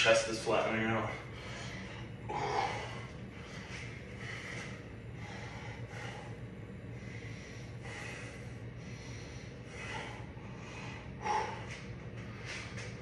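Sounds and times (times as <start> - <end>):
low hum: 0.0 - 13.0
man breathing heavily through nose: 0.9 - 13.0.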